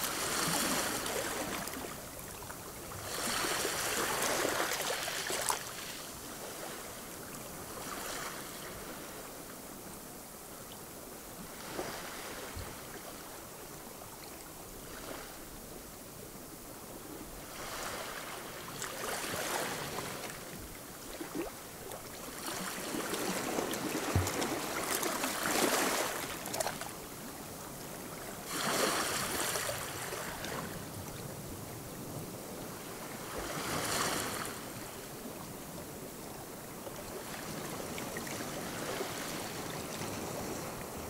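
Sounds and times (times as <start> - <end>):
waves lapping on rocky shore: 0.0 - 9.4, 11.5 - 13.4, 17.3 - 31.8, 32.4 - 41.0.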